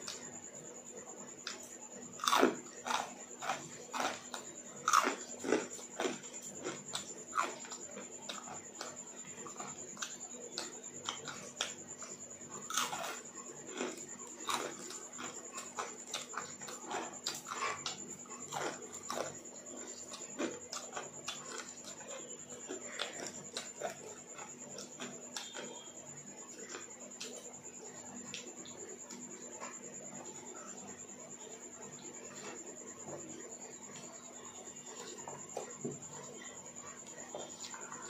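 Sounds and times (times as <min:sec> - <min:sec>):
faint high-pitched whine: 0:00.0 - 0:38.0.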